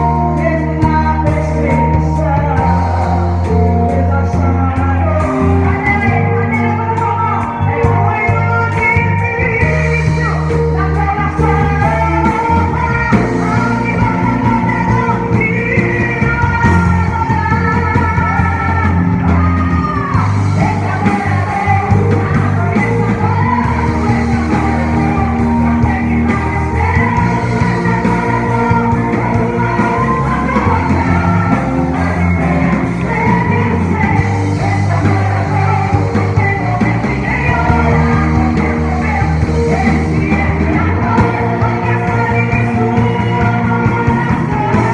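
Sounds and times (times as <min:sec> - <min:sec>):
bass holding long notes: 0:00.0 - 0:44.9
worship song with full band: 0:00.0 - 0:44.9.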